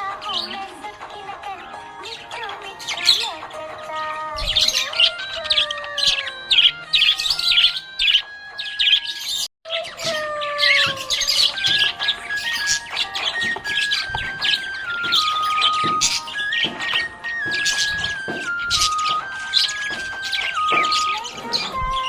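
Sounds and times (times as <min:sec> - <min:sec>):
background music: 0:00.0 - 0:09.5, 0:10.2 - 0:22.0
budgerigar chirping: 0:01.8 - 0:22.0.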